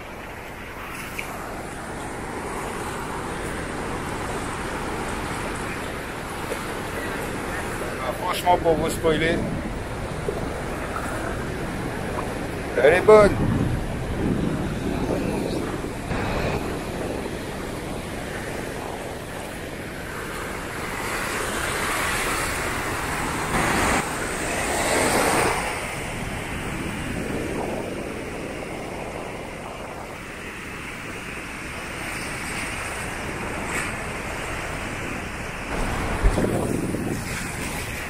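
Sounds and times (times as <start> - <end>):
ocean surf breaking: 0.0 - 38.0
wind buffeting microphone: 0.0 - 38.0.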